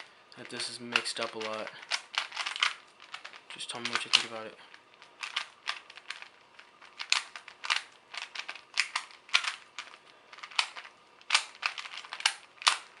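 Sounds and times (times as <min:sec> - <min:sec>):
puzzle cube twisting clicks: 0:00.4 - 0:13.0.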